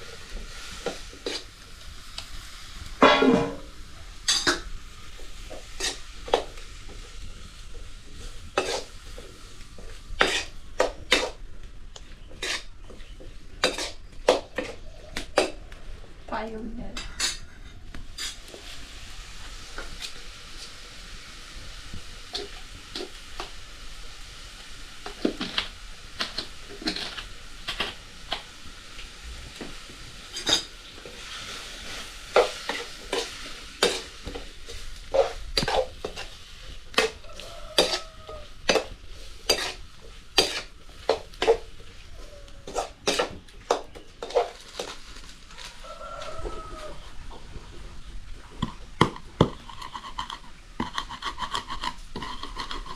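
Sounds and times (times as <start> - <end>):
food sizzling in a pan: 0.0 - 15.6, 18.0 - 49.8.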